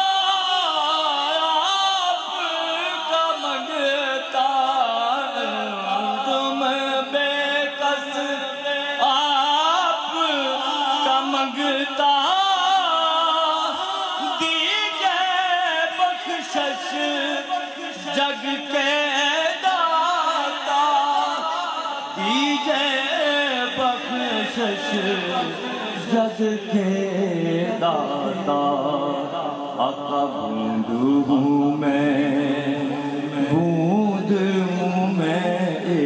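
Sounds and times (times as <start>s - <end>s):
man singing into microphone: 0.0s - 36.0s.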